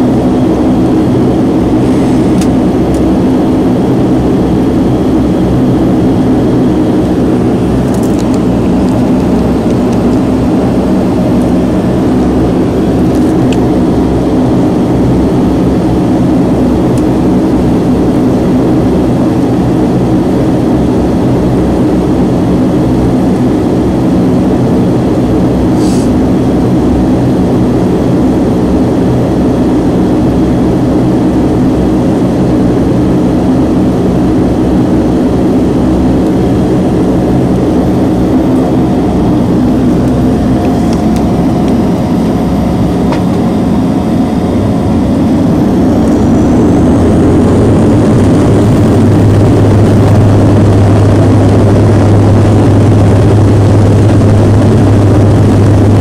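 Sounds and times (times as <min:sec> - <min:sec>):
high engine whine: 0:00.0 - 0:56.0
turboprop engines droning: 0:00.0 - 0:56.0.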